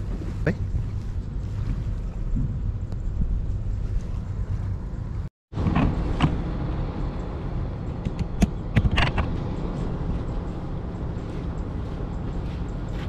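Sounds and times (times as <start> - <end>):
motorboat engine rumbling: 0.0 - 13.0
wind buffeting microphone: 0.0 - 13.0.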